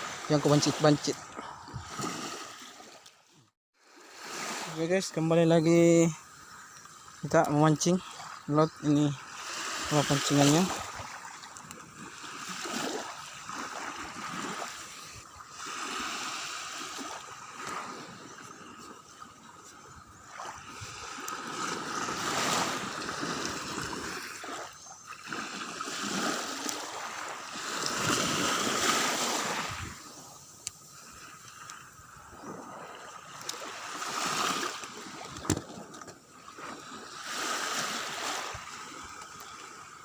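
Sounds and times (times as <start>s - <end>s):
sea waves washing and splashing: 0.0s - 40.0s.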